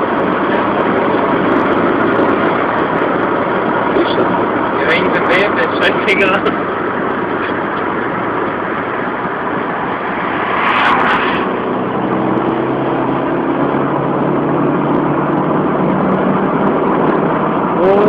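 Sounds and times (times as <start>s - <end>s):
car engine drone: 0.0s - 18.0s
road and wind noise: 0.0s - 18.0s.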